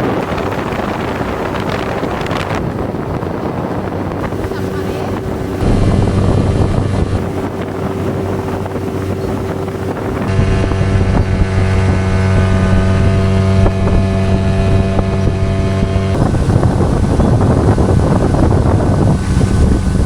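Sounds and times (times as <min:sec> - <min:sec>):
motorboat engine running: 0:00.0 - 0:20.0
wind on the microphone: 0:00.0 - 0:20.0.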